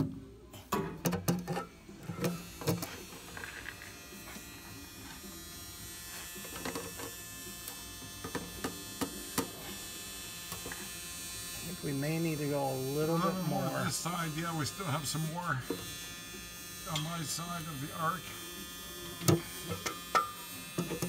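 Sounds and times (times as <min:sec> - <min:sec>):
electrical buzz: 0:01.8 - 0:21.0.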